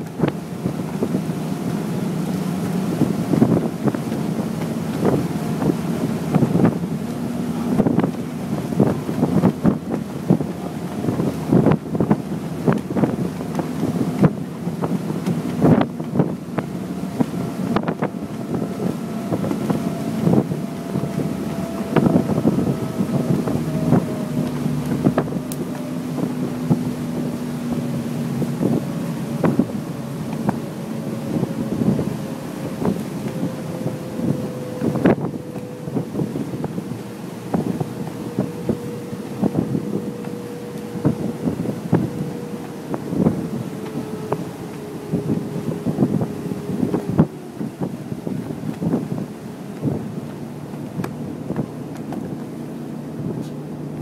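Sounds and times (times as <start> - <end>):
ferry engines droning: 0.0 - 54.0
water rushing: 0.0 - 54.0
wind on microphone: 0.0 - 54.0.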